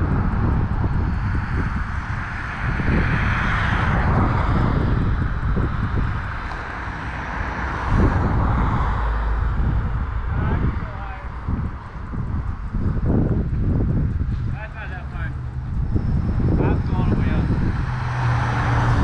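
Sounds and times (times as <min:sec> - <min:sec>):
street traffic: 0:00.0 - 0:19.0
vehicle passing: 0:00.0 - 0:19.0
wind rumbling on microphone: 0:00.0 - 0:19.0.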